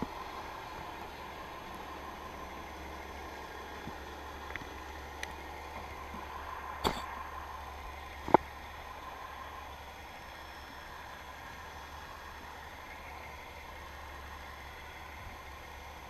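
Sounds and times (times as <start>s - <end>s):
underwater low hum: 0.0s - 16.0s.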